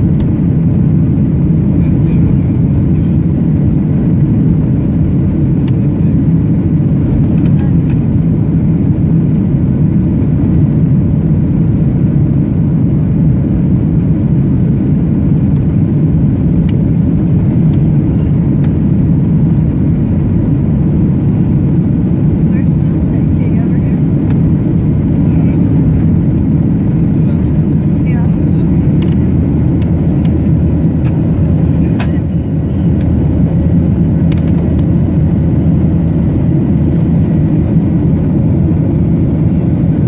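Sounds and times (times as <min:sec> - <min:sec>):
airliner cabin rumble: 0:00.0 - 0:40.0.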